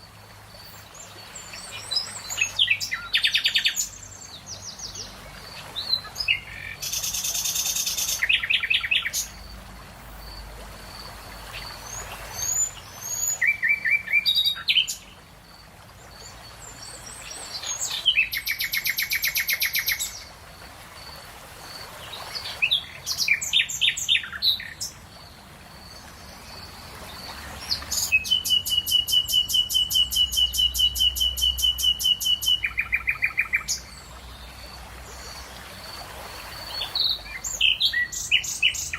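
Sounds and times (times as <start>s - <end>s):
songbirds singing: 0.0s - 20.3s, 21.7s - 38.9s
faint outdoor hiss: 0.0s - 38.9s.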